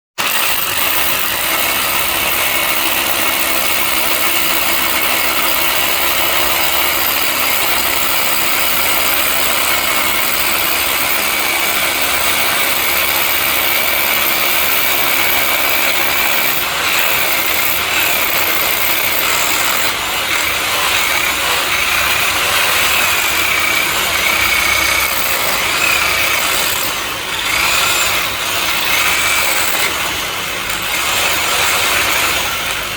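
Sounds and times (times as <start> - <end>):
power drill boring into concrete: 0.2 - 32.9.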